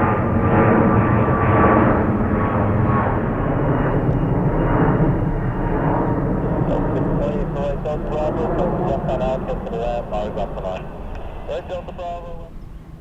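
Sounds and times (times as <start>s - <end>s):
jet engines running: 0.0s - 13.0s
hum of steady tones: 1.5s - 13.0s.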